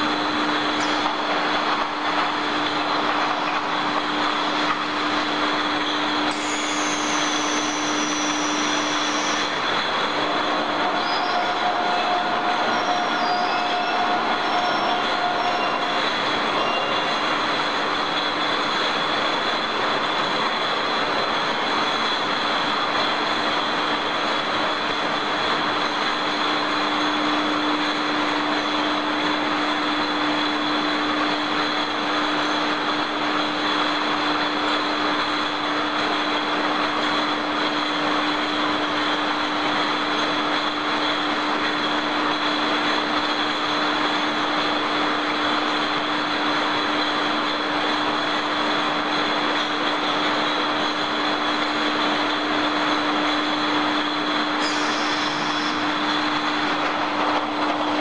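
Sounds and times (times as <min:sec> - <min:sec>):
machinery high whine: 0:00.0 - 0:58.0
machinery low drone: 0:00.0 - 0:58.0.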